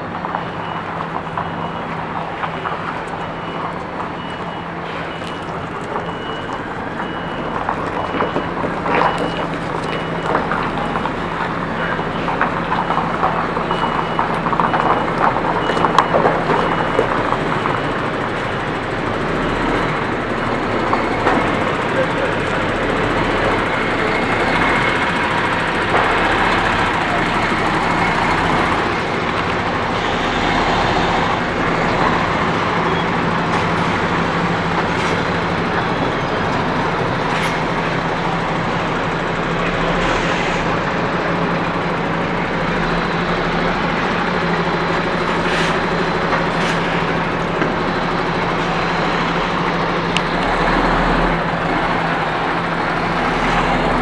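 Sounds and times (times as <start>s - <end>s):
lorry diesel engine running: 0.0s - 54.0s.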